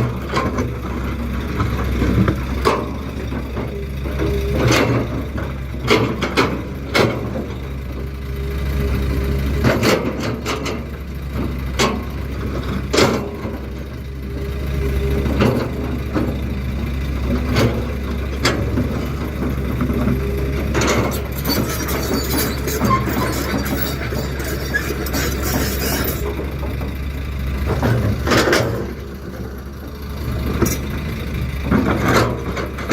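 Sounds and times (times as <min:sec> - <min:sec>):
heavy diesel machinery running: 0:00.0 - 0:32.9.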